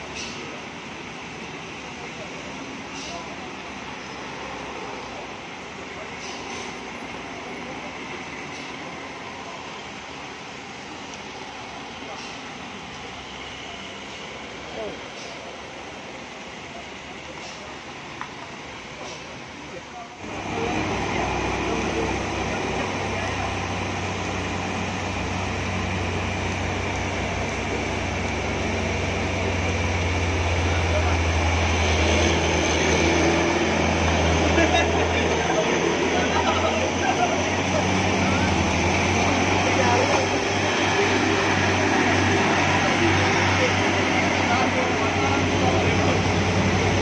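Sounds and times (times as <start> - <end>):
car engines running: 0.0 - 47.0
falling rain: 0.0 - 47.0
tyres hissing on wet asphalt: 0.0 - 47.0.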